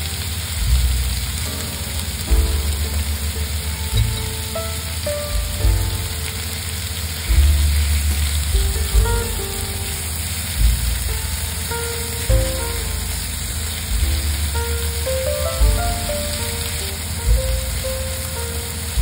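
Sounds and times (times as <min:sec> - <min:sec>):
background music with bass: 0:00.0 - 0:19.0
chicken and onion sizzling: 0:00.0 - 0:19.0.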